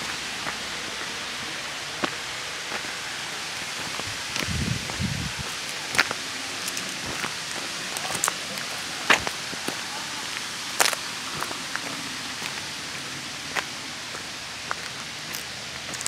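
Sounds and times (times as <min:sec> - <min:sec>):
water rushing from falls: 0:00.0 - 0:16.0.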